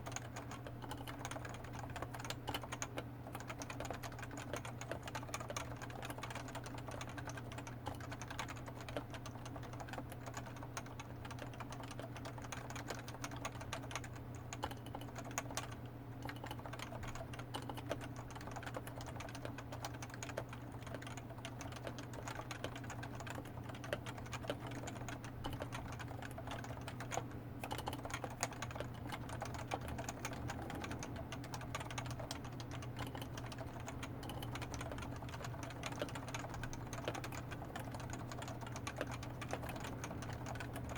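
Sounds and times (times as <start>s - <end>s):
soft keyboard keystrokes: 0.0s - 40.9s
steady low hum: 0.0s - 40.9s.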